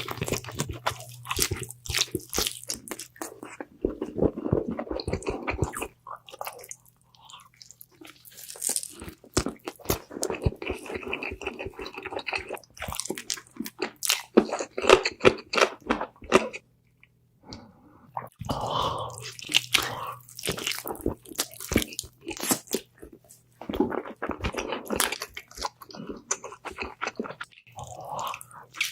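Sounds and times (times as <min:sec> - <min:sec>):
crunchy bites and chewing: 0:00.0 - 0:16.6, 0:18.4 - 0:28.9.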